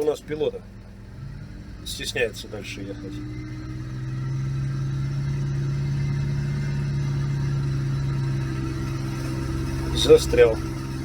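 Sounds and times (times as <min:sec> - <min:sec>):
all-terrain vehicle engine running: 0:00.0 - 0:11.0.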